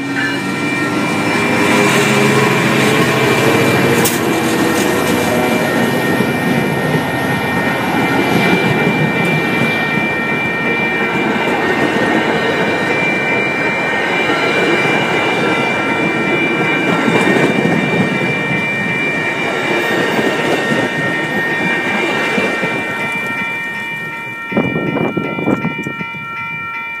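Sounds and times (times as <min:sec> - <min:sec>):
train wheels clattering over track: 0:00.0 - 0:26.1
crossing warning bell ringing: 0:00.0 - 0:27.0.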